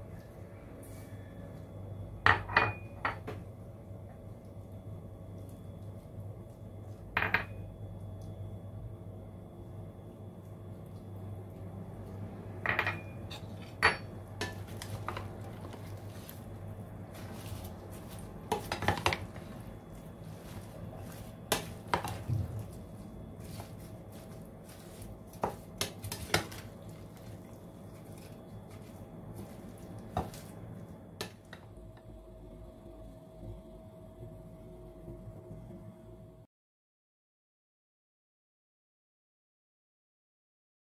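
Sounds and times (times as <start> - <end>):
steady low hum: 0.0 - 36.5.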